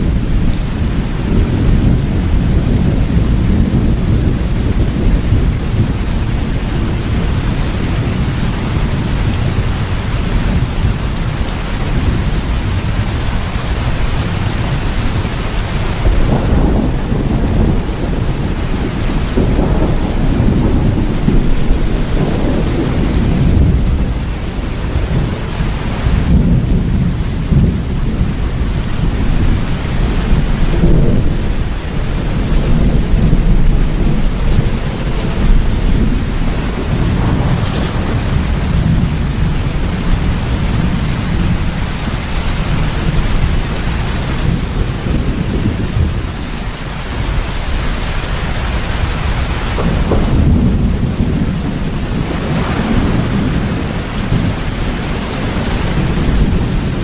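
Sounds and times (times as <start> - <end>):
deep thunder rumble: 0.0 - 57.0
heavy rain: 0.0 - 57.0.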